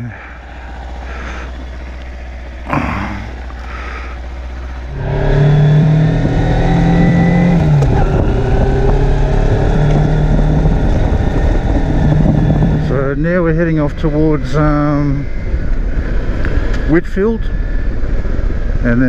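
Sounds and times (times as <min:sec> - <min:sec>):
motorcycle engine: 0:00.0 - 0:19.0.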